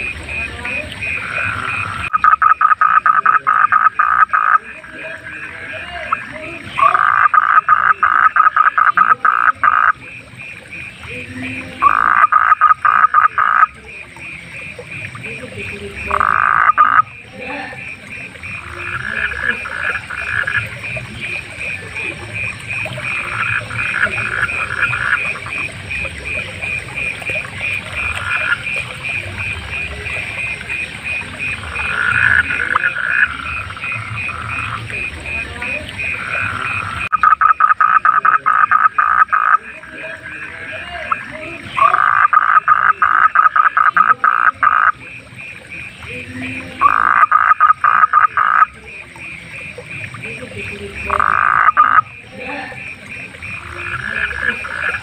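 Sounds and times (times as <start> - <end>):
frogs croaking: 0.0 - 55.0
high-pitched pulsing frog call: 0.0 - 55.0.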